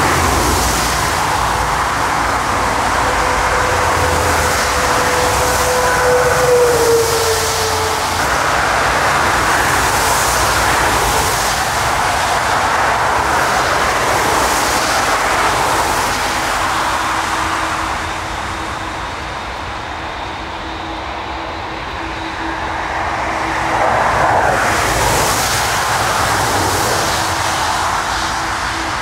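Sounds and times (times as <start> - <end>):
jet engine rumble and hiss: 0.0 - 29.0.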